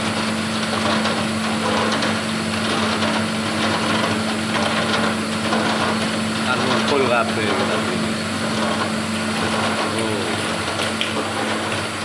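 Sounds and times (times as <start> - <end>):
ice machine hum: 0.0 - 12.0.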